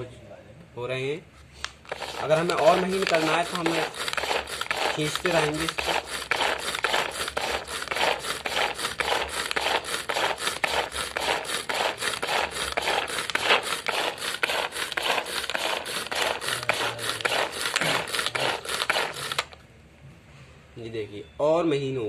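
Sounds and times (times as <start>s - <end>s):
vegetable chopper rasping strokes: 1.6s - 19.6s.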